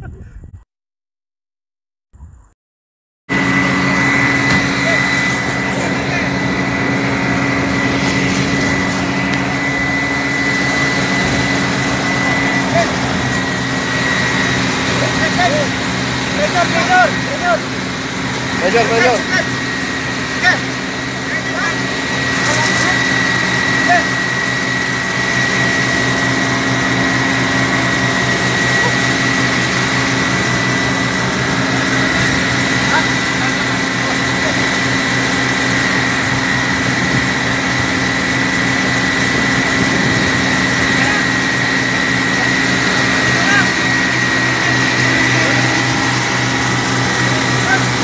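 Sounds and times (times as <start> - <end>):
engine drone: 3.3 - 48.0
high-pitched whine: 3.3 - 48.0
hose stream spraying: 3.4 - 48.0.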